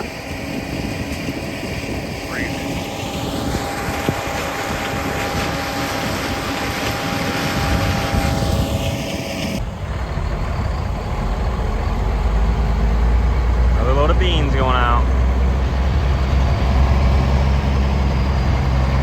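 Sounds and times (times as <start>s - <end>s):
farm vehicle engine running: 0.0s - 19.0s.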